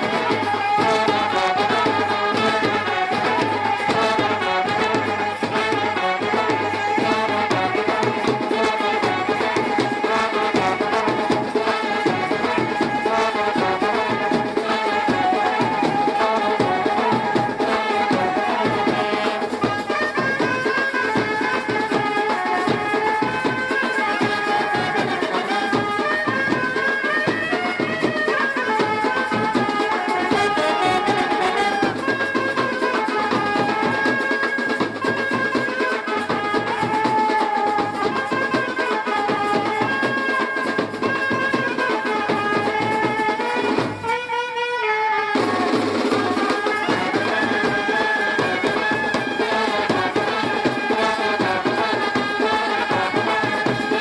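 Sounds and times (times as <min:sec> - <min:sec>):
fast steady drumming: 0:00.0 - 0:44.5, 0:45.4 - 0:54.0.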